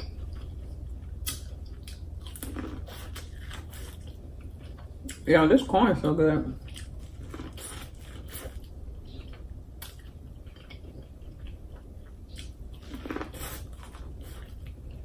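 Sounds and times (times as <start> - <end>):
wet chewing: 0.1 - 5.2, 6.6 - 15.0.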